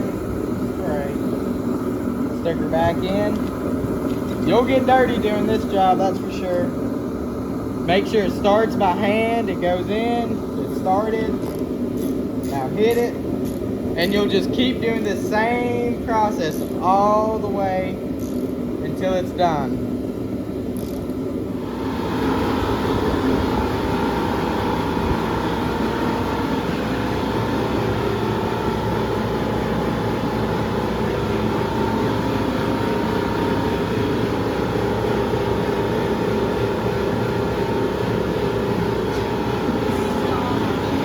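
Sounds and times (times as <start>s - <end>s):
machine motor humming: 0.0s - 20.0s, 20.7s - 41.0s.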